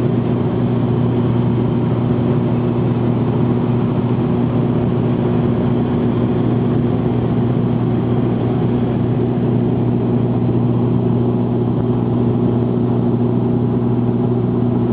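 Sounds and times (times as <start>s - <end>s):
aircraft engine drone: 0.0s - 14.9s.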